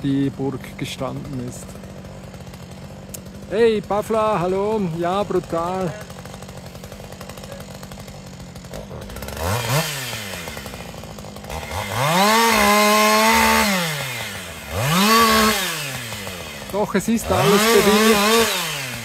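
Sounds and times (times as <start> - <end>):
chainsaw engine idling and revving: 0.0 - 19.0.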